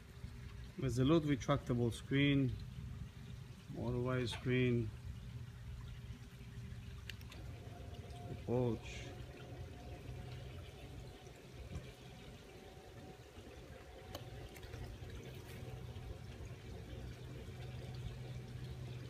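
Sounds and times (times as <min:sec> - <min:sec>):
motor low hum: 0:02.4 - 0:19.0.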